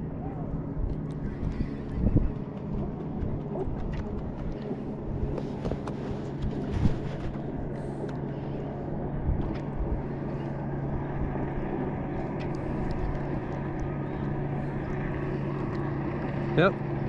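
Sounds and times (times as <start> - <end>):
motorboat engine droning: 0.0 - 17.0.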